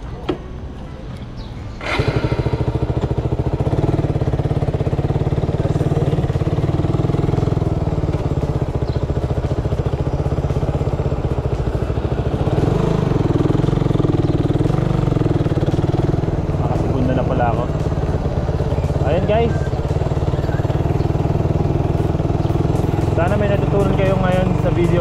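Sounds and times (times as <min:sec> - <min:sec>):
motorcycle engine running: 0:01.4 - 0:25.0.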